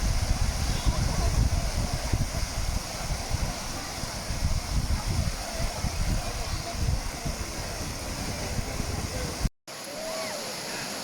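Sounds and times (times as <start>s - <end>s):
wind buffeting microphone: 0.0s - 9.5s
waterfall rushing over rock: 0.0s - 11.0s.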